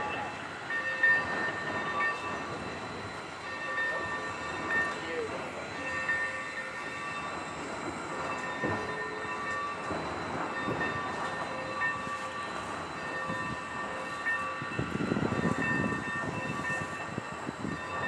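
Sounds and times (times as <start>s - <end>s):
locomotive humming and rumbling: 0.0s - 18.0s.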